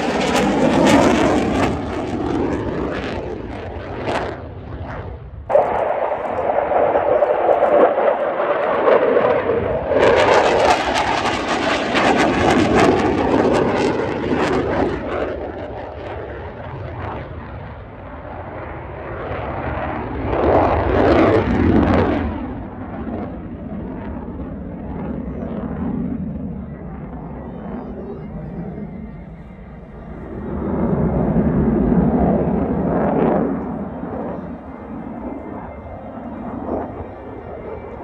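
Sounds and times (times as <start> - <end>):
fighter jet flying overhead: 0.0 - 38.0.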